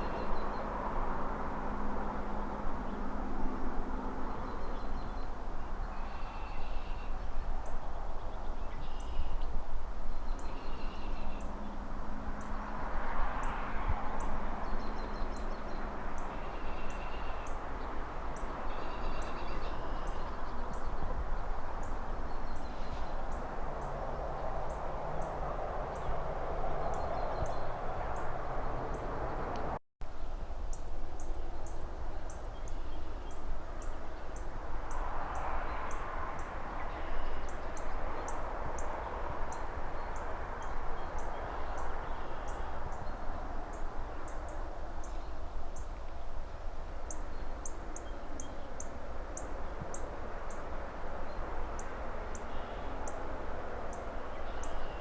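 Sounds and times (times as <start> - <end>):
vehicle passing: 0.0 - 8.5, 10.8 - 29.8, 33.6 - 55.0
distant traffic rumble: 0.0 - 55.0.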